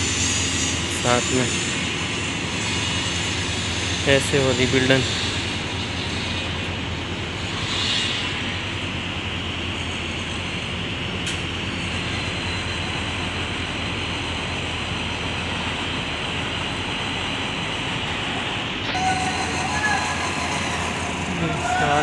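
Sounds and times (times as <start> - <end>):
road traffic hum: 0.0 - 22.0.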